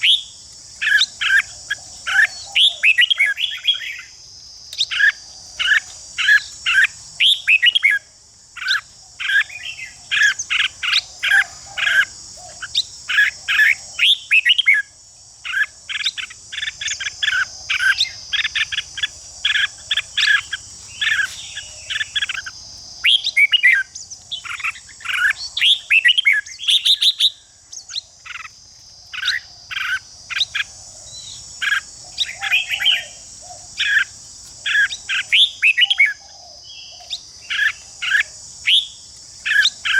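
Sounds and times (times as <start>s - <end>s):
high insect-like drone: 0.0s - 36.3s
birds singing and chattering: 0.0s - 39.9s.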